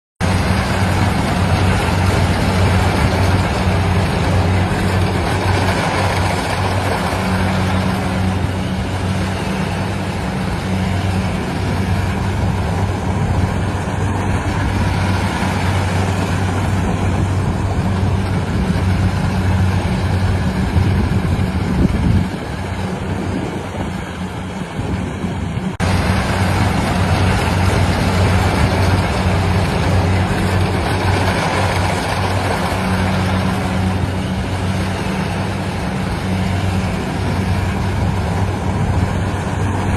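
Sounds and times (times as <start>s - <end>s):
harvester engine running: 0.2s - 39.9s.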